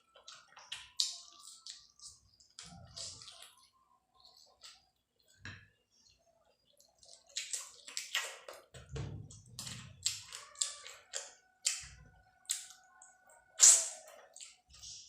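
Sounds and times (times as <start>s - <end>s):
person chewing and lip-smacking: 0.0s - 4.8s, 6.8s - 8.8s, 9.4s - 15.0s.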